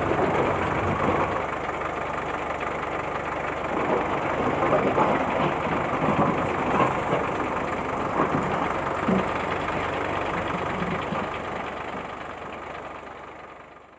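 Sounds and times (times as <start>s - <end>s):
diesel engine chugging: 0.0s - 13.9s.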